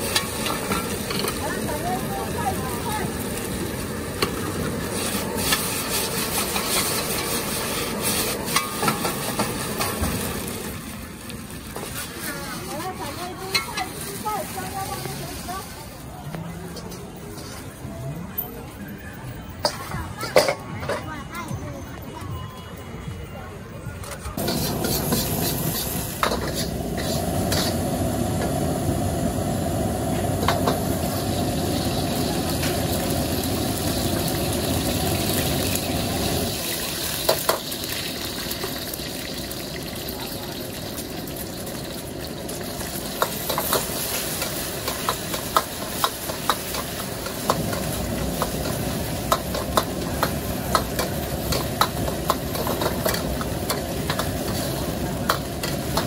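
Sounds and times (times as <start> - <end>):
wok sizzling: 0.0 - 17.8, 24.4 - 56.0.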